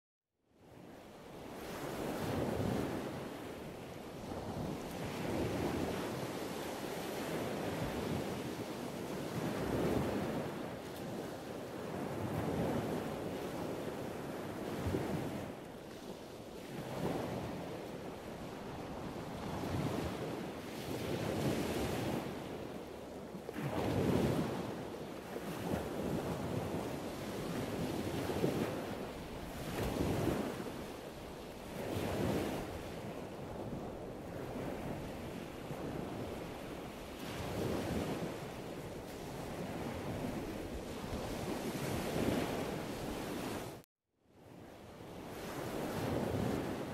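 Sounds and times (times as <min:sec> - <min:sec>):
ocean waves washing in: 0:01.0 - 0:43.8.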